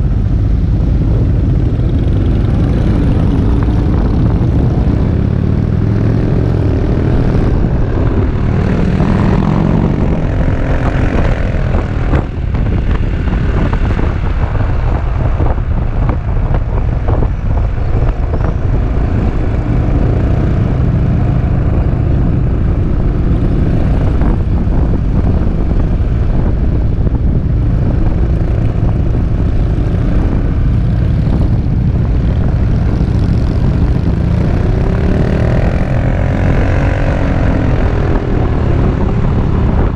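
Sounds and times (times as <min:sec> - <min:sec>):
wind rumble on camera: 0:00.0 - 0:39.9.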